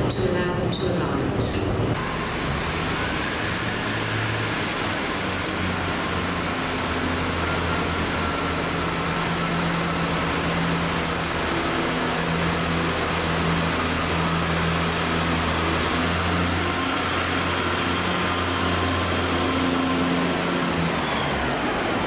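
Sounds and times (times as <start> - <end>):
diesel train engine humming: 0.0 - 22.0.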